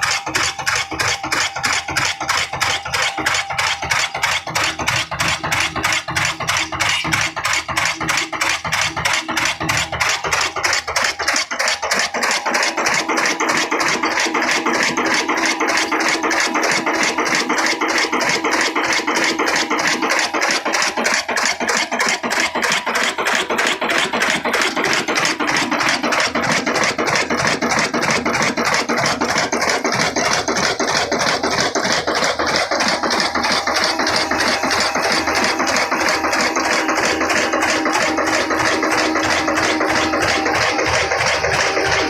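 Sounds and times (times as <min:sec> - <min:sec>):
single-cylinder diesel engine running: 0:00.0 - 0:42.0.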